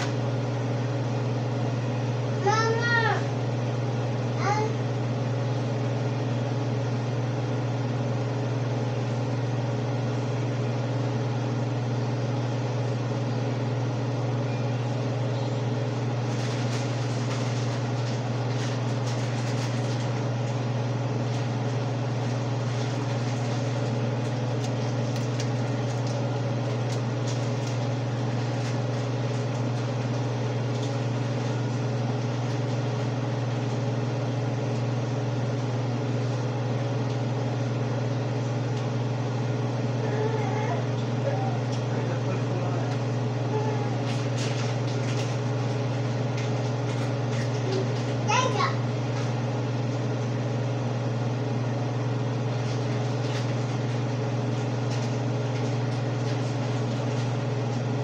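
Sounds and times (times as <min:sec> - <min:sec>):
range hood fan humming: 0:00.0 - 0:58.0.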